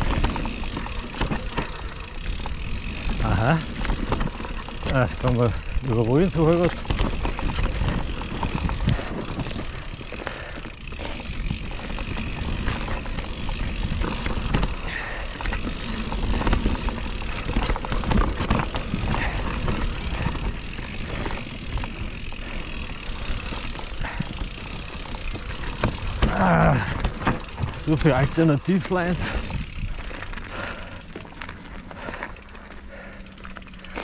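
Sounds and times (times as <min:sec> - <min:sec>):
bike rattling over bumps: 0:00.0 - 0:34.0
tyres rumbling on dirt: 0:00.0 - 0:34.0.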